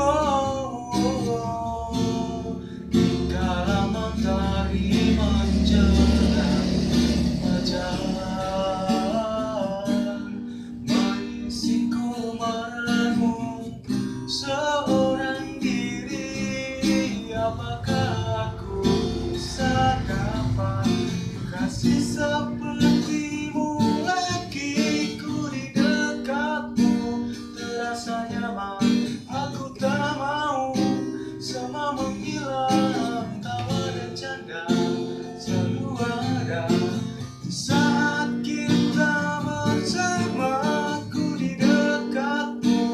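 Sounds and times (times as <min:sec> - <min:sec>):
person singing: 0:00.0 - 0:42.9
strummed acoustic guitar: 0:00.0 - 0:42.9.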